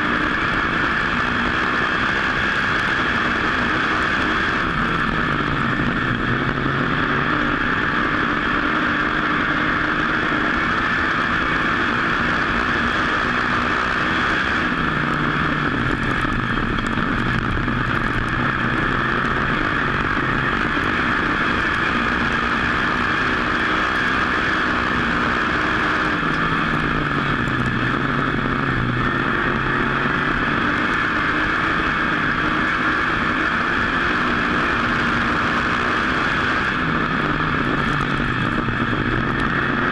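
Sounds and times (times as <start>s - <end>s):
race car engine: 0.0s - 39.9s
wind and road noise: 0.0s - 39.9s.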